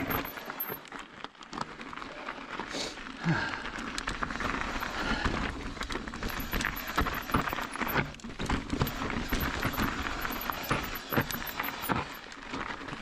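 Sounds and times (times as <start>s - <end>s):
bike knocking and rattling: 0.0s - 2.0s, 3.8s - 13.0s.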